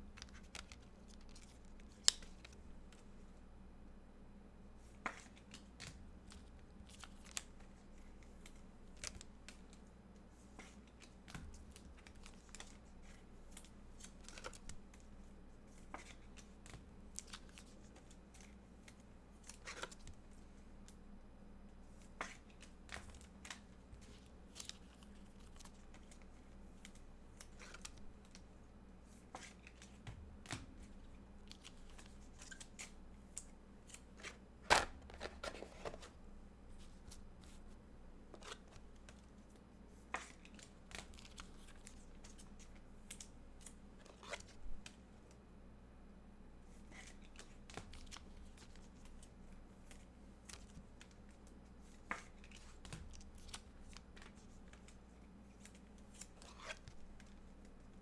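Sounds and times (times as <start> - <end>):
cards and packaging handled: 0.0 - 3.1, 4.9 - 20.6, 21.9 - 28.5, 29.2 - 37.7, 38.3 - 45.0, 46.9 - 58.0.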